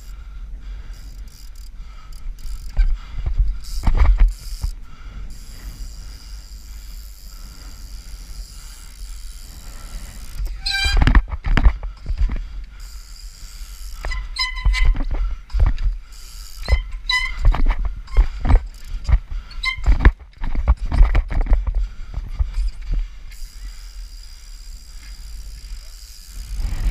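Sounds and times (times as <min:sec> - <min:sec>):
bicycle rolling: 0:00.0 - 0:26.9.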